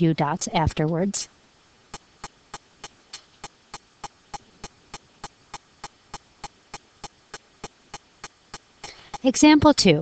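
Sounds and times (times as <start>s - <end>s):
faint evenly spaced clicks: 0.0s - 9.9s
low hiss: 0.0s - 10.0s.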